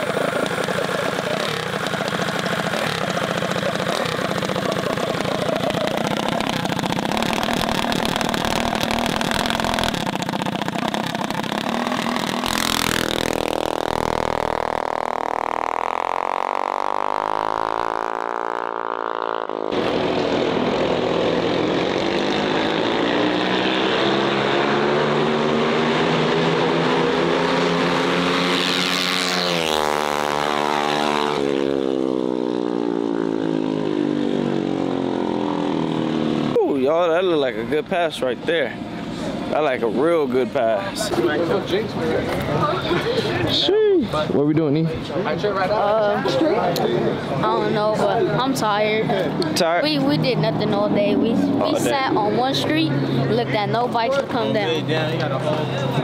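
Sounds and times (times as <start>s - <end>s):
mini bike engines revving: 0.0s - 56.0s.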